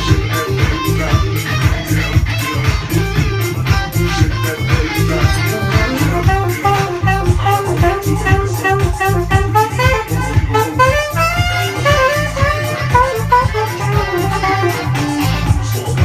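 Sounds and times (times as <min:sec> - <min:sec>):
music with heavy bass beat: 0:00.0 - 0:16.0.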